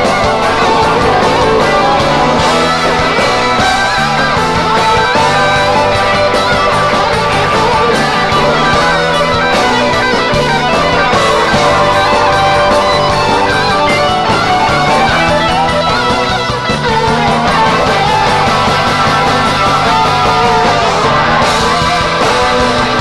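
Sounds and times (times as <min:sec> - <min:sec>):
bass line: 0:00.0 - 0:23.0
drum beats: 0:00.0 - 0:23.0
electric guitar lead: 0:00.0 - 0:23.0.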